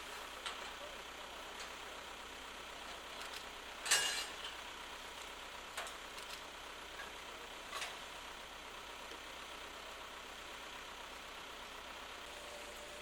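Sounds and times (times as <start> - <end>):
heavy machinery idling: 0.0 - 13.0.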